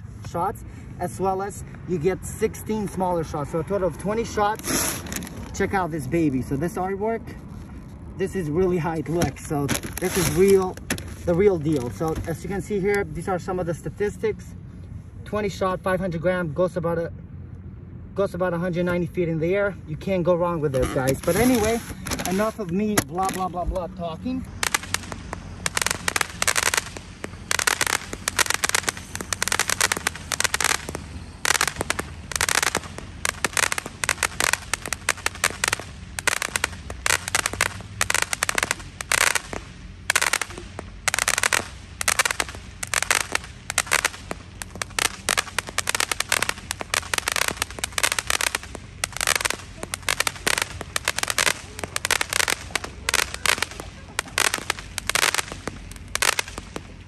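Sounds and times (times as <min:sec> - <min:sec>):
fireworks pops and bursts: 0:00.1 - 0:00.5, 0:01.2 - 0:13.4, 0:20.7 - 0:57.0.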